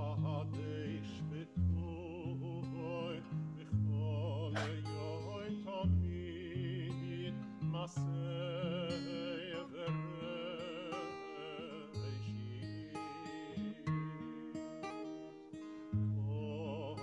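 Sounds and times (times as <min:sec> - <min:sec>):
man singing operatically: 0:00.0 - 0:14.9, 0:16.2 - 0:17.0
acoustic guitar: 0:00.0 - 0:17.0.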